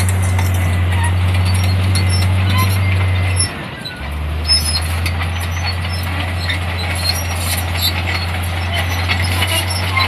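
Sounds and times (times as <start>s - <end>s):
diesel engine droning: 0.0s - 10.0s
light clicks and squeaks: 0.1s - 10.0s.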